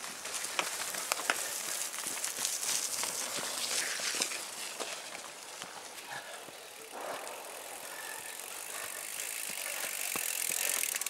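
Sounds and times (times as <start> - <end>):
bike tyres through mud and leaves: 0.0 - 11.0.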